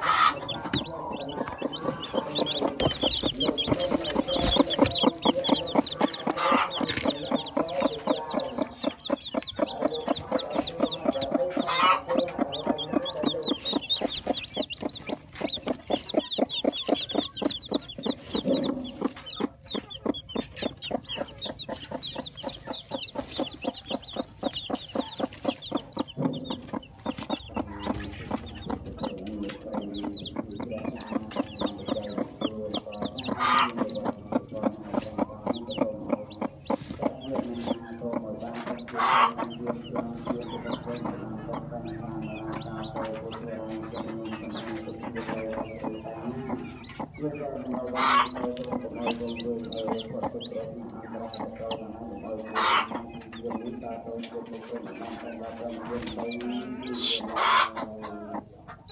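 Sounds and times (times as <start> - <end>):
chicks peeping: 0.0 - 58.9
hen clucking: 0.0 - 58.9.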